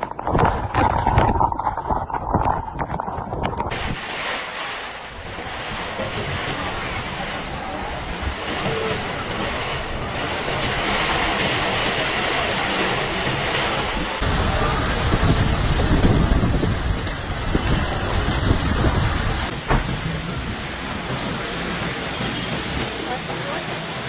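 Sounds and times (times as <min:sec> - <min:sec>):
wind buffeting microphone: 0:00.0 - 0:23.2
rush of wind and water: 0:00.0 - 0:24.0.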